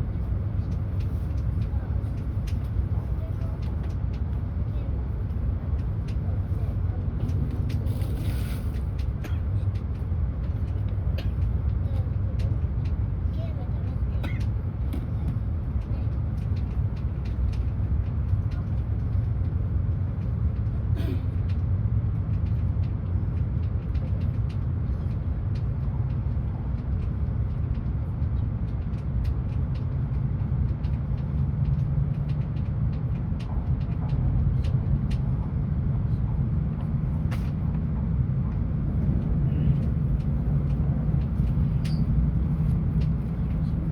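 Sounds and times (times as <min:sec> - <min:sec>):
train rumbling along track: 0:00.0 - 0:43.9.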